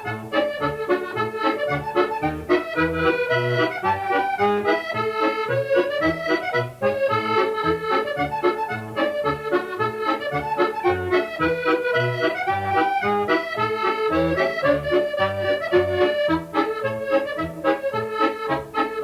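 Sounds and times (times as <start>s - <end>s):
accordion playing lively tune: 0.0s - 19.0s.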